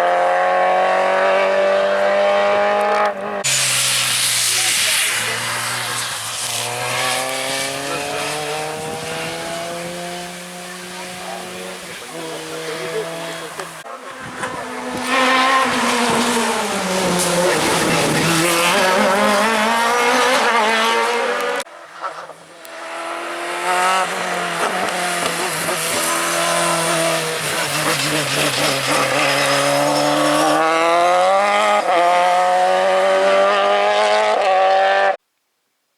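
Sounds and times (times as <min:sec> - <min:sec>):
race car engine revving: 0:00.0 - 0:21.7, 0:22.6 - 0:35.2.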